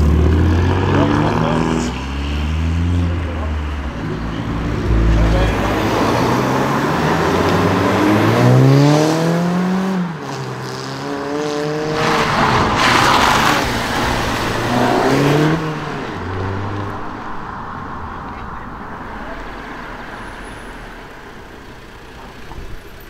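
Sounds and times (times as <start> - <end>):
cars accelerating hard: 0.0 - 21.1.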